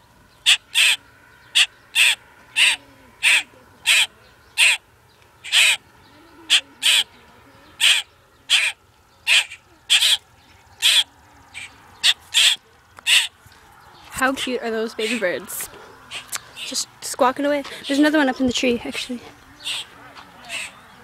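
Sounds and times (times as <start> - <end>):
baby birds squawking: 0.3 - 16.9, 17.7 - 21.0.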